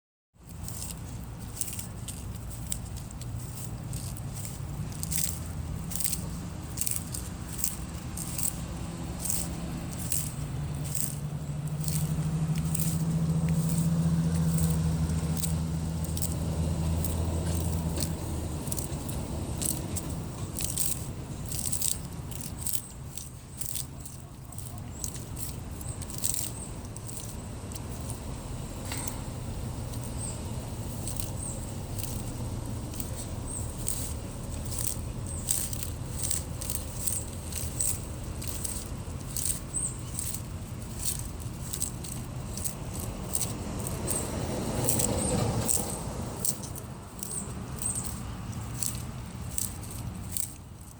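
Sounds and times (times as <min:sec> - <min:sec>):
animal chewing and crunching: 0:00.4 - 0:50.9.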